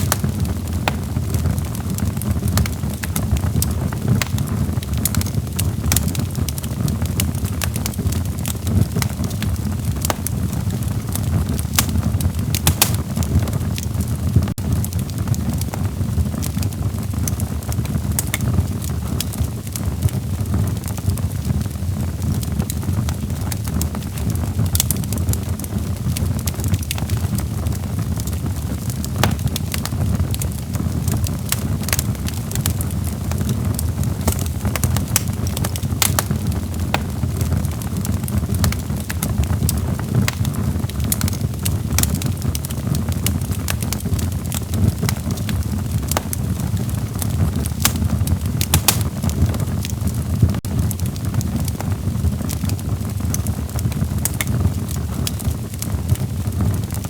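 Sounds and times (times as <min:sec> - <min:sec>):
fire rumbling: 0:00.0 - 0:57.0
wood crackling and popping: 0:00.0 - 0:57.0.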